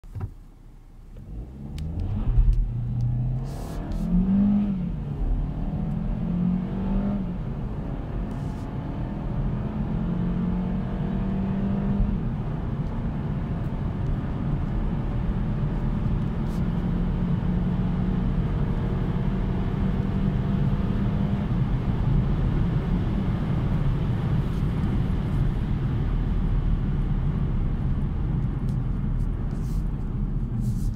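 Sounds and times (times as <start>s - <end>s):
road and wind noise: 0.1s - 30.9s
car engine accelerating: 1.1s - 30.9s.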